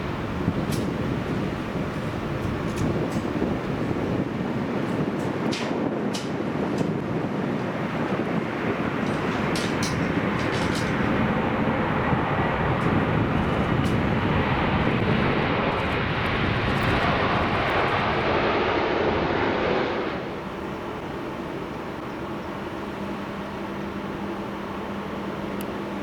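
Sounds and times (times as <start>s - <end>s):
jet airliner taking off: 0.0s - 23.0s.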